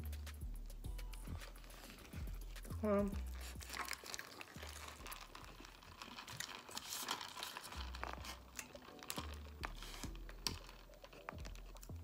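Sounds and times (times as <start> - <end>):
paper wrapper crinkling: 1.0 - 12.0.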